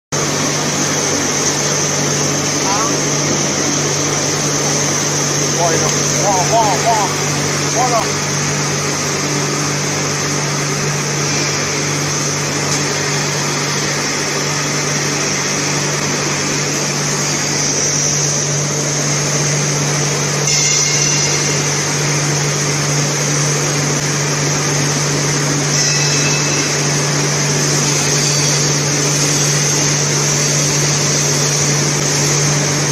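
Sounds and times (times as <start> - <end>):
low motor drone: 0.2 - 32.9.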